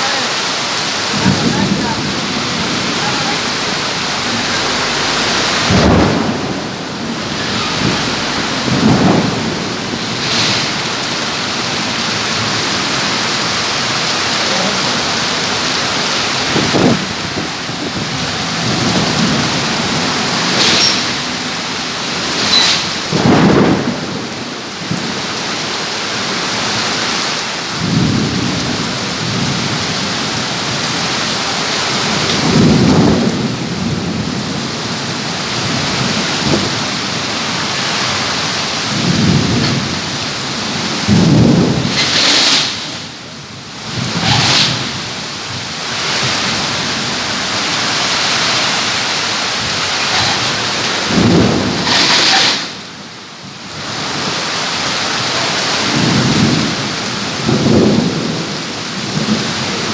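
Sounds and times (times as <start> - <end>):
heavy rain pouring: 0.0 - 59.9
thunder rumbles: 0.0 - 59.9.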